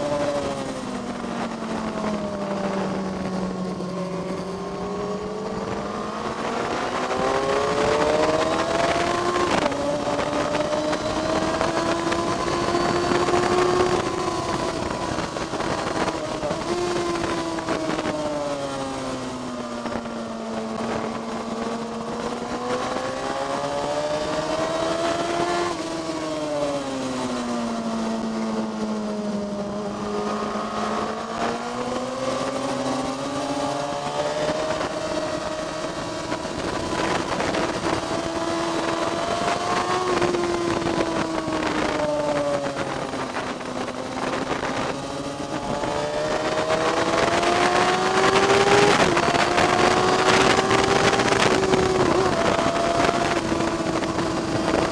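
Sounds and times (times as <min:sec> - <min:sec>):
racing car engine at speed: 0:00.0 - 0:54.9
steady rushing noise: 0:00.0 - 0:54.9.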